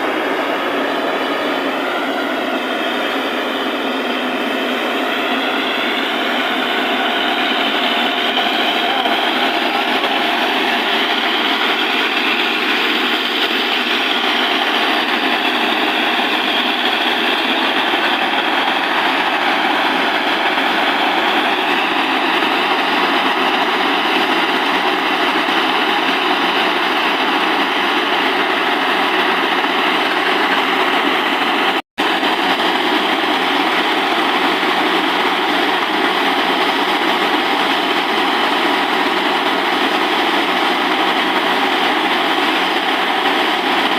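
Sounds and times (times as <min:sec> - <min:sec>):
drilling rig engine running: 0:00.0 - 0:43.9.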